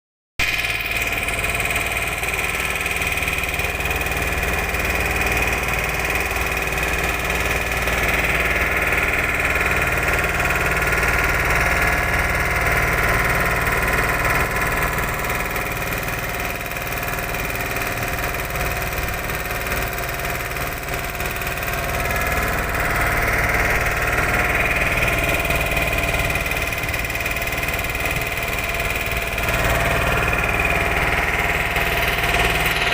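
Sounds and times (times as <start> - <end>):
motorboat engine droning: 0.4 - 32.9.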